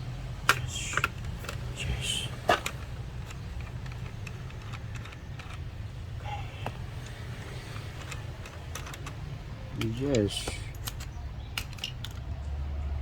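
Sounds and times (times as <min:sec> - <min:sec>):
small tools and plastic parts clicking: 0:00.4 - 0:12.5.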